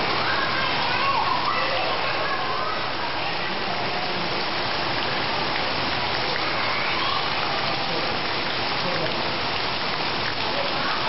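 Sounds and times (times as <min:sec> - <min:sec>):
heavy rain splashing into puddles: 0:00.0 - 0:11.0.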